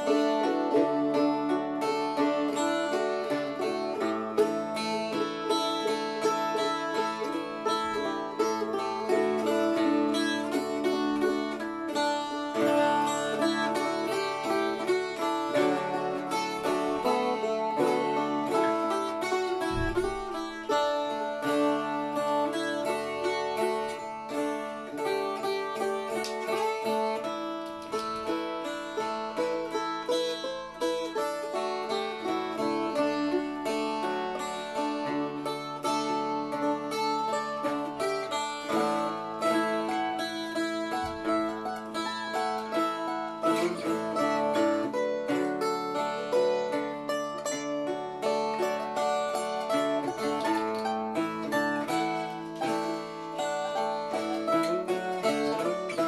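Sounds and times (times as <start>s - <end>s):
bouzouki: 0.0s - 56.0s
dulcimer: 0.0s - 56.0s.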